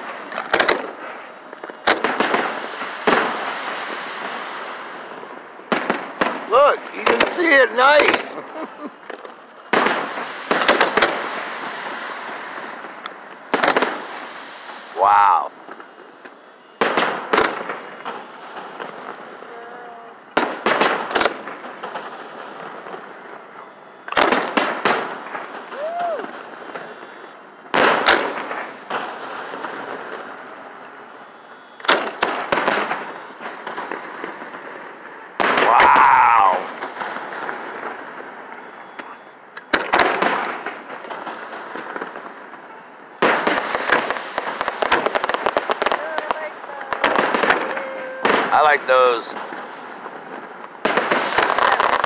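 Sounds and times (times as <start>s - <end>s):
crackling hiss of sparks: 0.0s - 52.0s
fireworks bangs: 0.0s - 52.0s.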